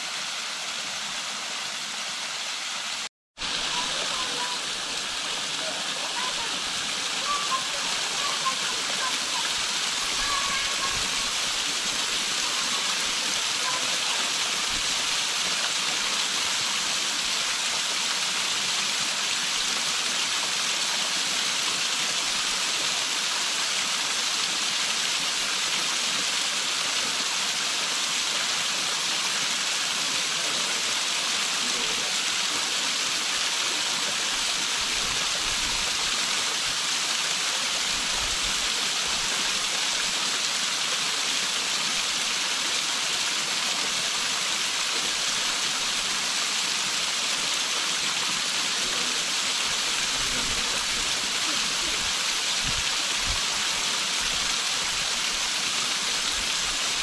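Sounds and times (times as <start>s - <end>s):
small waterfall splashing on rock: 0.0s - 57.0s.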